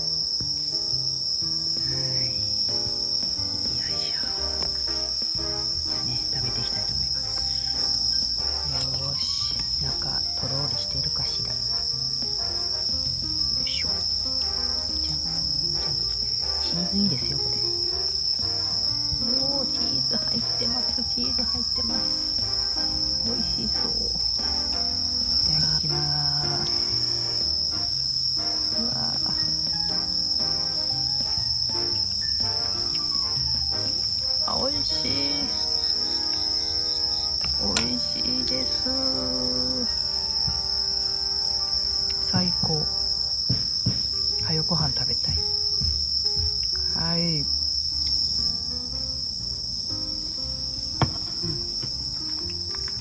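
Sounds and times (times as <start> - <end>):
crickets chirping: 0.0 - 53.0.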